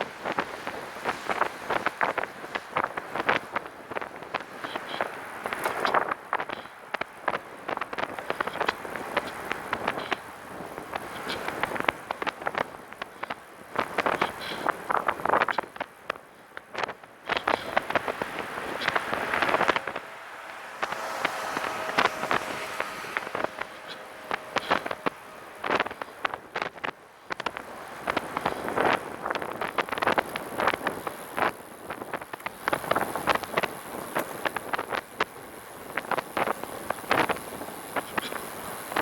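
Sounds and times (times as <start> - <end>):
trike rolling: 0.0 - 39.0
wind noise on microphone: 0.0 - 39.0.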